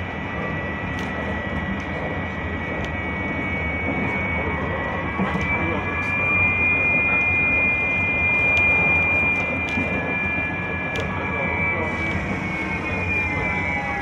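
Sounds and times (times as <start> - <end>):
high steady whine: 0.0 - 14.0
tram ride rumble: 0.0 - 14.0.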